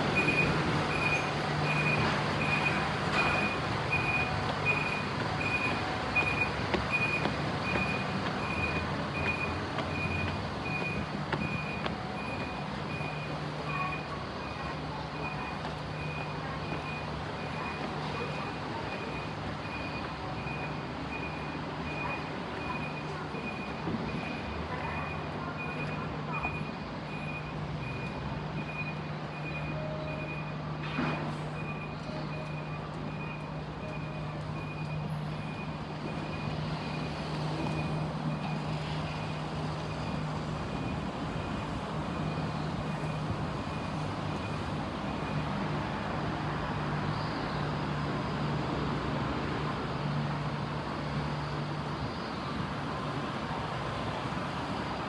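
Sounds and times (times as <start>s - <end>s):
level crossing alarm beeping: 0.0s - 48.1s.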